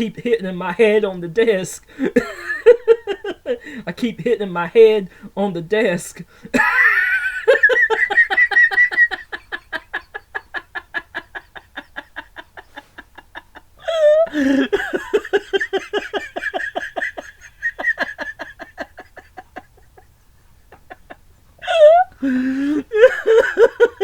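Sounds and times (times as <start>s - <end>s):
man giggling rapidly: 1.9s - 3.9s, 6.5s - 24.0s.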